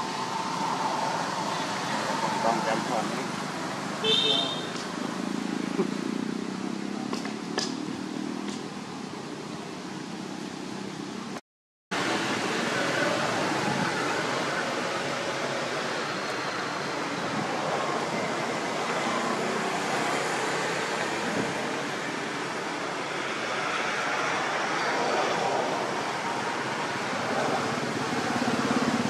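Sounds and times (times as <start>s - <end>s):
steady outdoor hiss: 0.0s - 29.0s.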